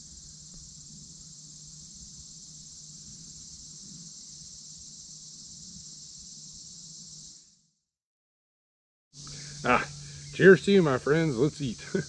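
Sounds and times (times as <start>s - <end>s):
insects shrilling: 0.0s - 7.7s, 9.2s - 12.0s.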